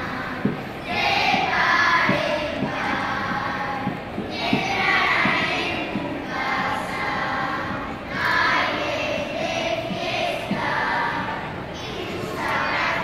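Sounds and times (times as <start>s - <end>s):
children's choir singing a carol: 0.0s - 13.0s.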